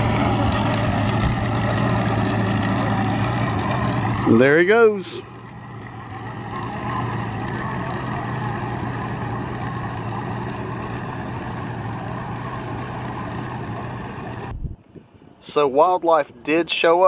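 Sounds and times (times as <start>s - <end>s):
outboard motor humming: 0.0s - 14.7s.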